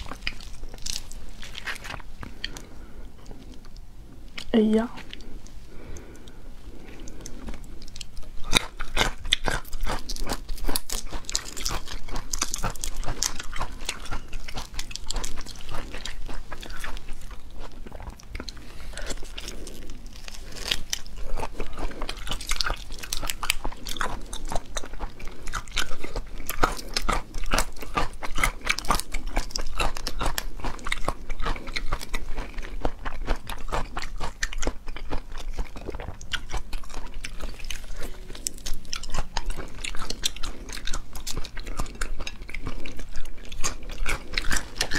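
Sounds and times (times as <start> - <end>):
shrimp crunching and chewing: 0.0 - 44.9.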